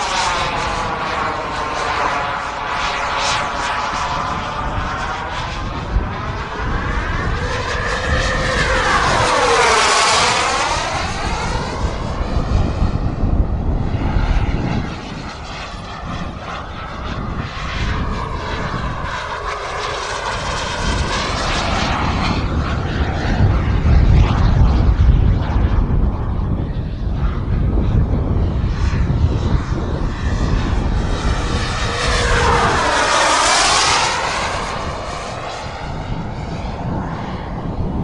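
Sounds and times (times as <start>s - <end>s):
model jet turbine whine: 0.0s - 38.0s.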